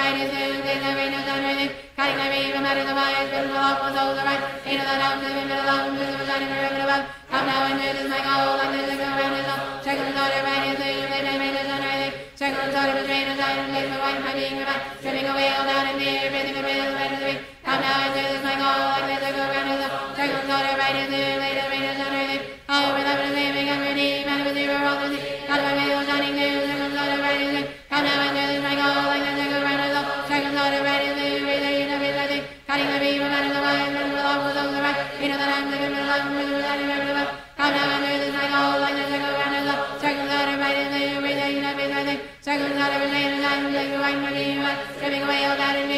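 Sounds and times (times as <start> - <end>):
person chanting monotone: 0.0 - 45.9.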